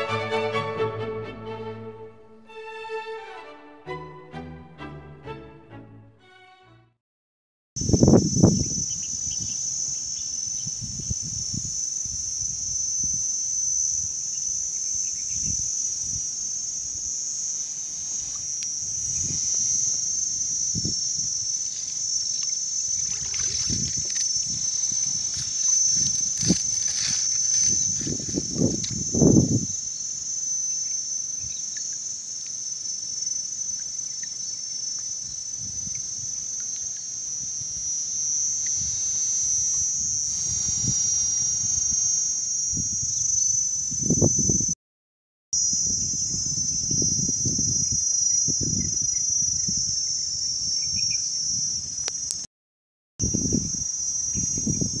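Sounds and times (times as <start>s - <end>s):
high-pitched insect chorus: 7.8s - 44.8s, 45.6s - 52.5s, 53.2s - 55.0s.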